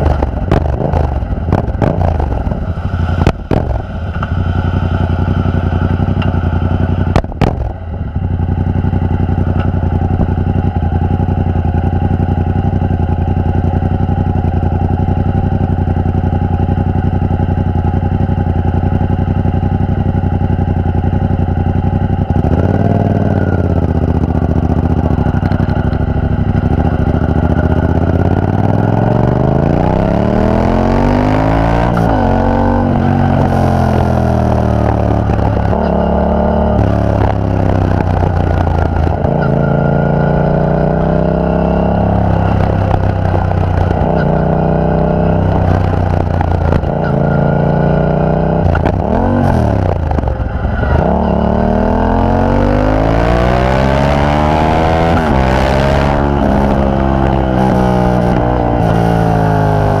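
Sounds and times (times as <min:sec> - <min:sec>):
motorcycle accelerating: 0:00.0 - 1:00.0
motorcycle engine idling and revving: 0:00.0 - 1:00.0.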